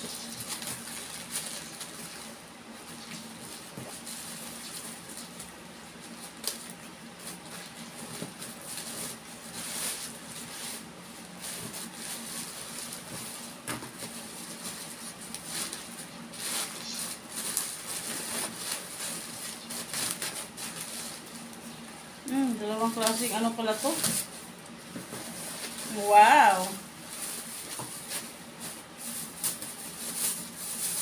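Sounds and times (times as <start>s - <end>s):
plastic bags rustling: 0.0s - 31.0s.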